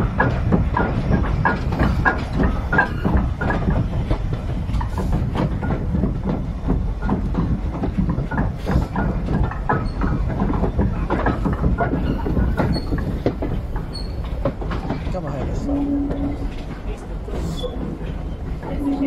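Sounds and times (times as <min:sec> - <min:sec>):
train rumble: 0:00.0 - 0:19.0
wheels clicking on track: 0:00.0 - 0:19.0.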